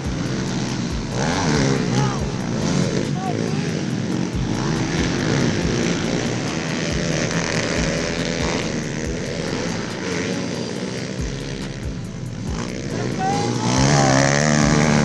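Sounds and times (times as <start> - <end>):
small motorbike engines running: 0.0 - 15.0.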